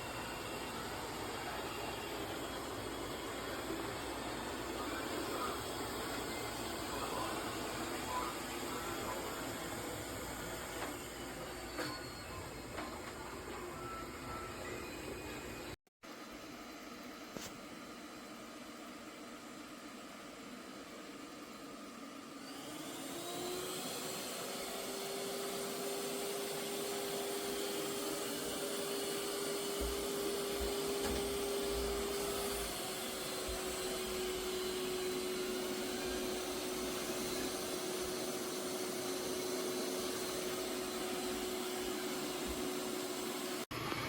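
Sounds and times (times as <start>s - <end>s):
robot vacuum motor whine: 0.0s - 14.9s, 22.0s - 44.0s.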